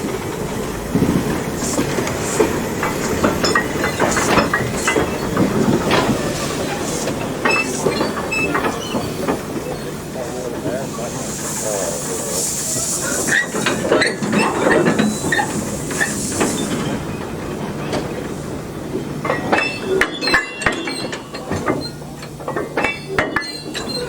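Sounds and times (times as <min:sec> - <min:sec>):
steam hissing: 0:00.0 - 0:24.0
train couplings and wheels clanking: 0:00.0 - 0:24.0.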